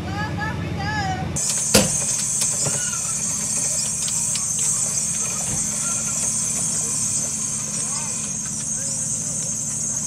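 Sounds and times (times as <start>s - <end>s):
car engine idling: 0.0s - 10.0s
high-pitched hiss: 1.4s - 10.0s.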